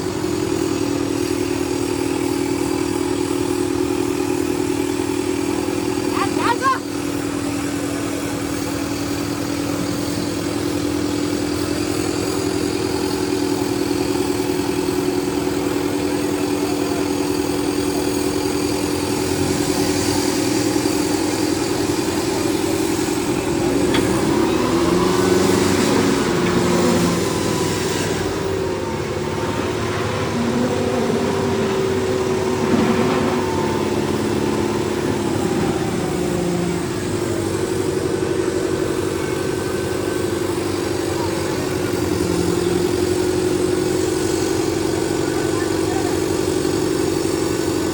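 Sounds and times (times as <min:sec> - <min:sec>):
tractor diesel engines droning: 0:00.0 - 0:47.9.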